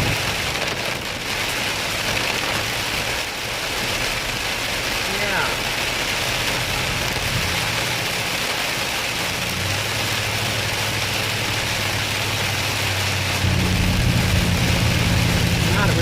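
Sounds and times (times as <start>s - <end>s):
heavy rain on a vehicle: 0.0s - 16.0s
vehicle engine hum: 0.0s - 16.0s.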